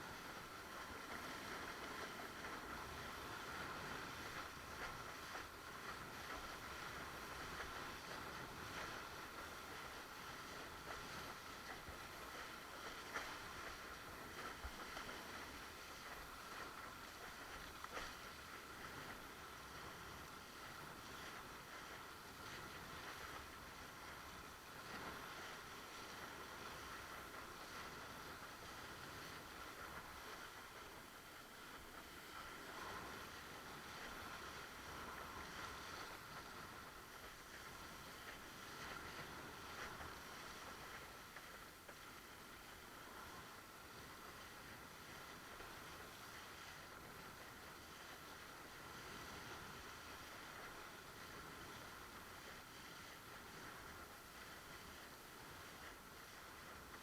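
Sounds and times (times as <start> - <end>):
rush of water: 0.0 - 57.0
wind: 0.0 - 57.0.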